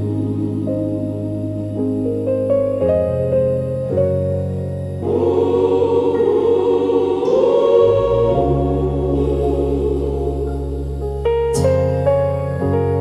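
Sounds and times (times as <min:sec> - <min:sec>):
choir singing wordless chords: 0:00.0 - 0:03.4, 0:04.4 - 0:13.0
sustained keyboard chords: 0:00.0 - 0:13.0.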